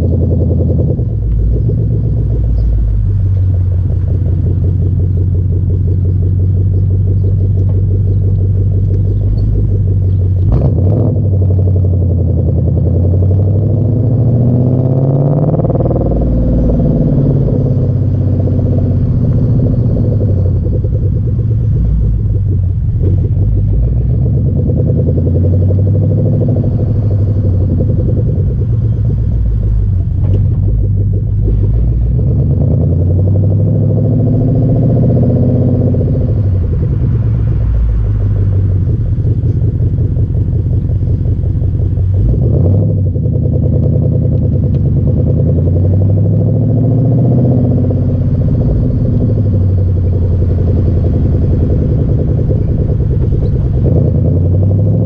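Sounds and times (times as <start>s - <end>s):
car exhaust drone: 0.0s - 55.0s.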